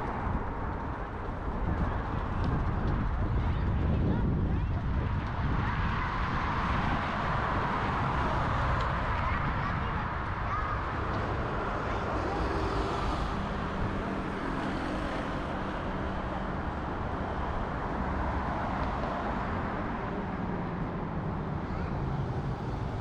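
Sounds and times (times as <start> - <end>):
cars driving through intersection: 0.0 - 23.0.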